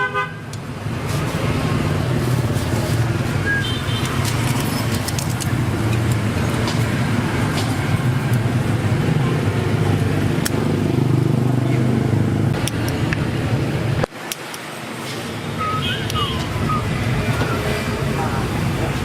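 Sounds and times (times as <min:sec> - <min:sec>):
motor traffic rumble: 0:00.0 - 0:19.0.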